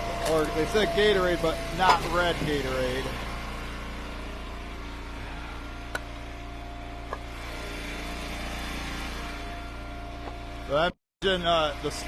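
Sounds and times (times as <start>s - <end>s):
wood splitter engine idling: 0.0s - 12.0s.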